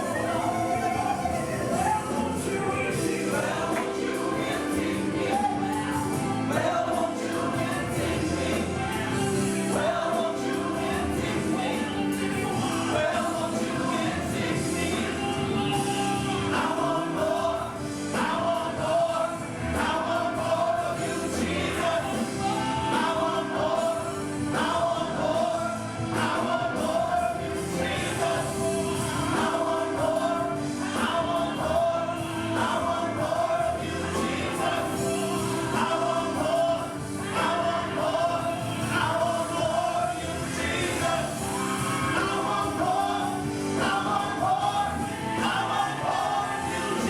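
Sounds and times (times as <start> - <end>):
gospel choir singing with band: 0.0 - 47.0.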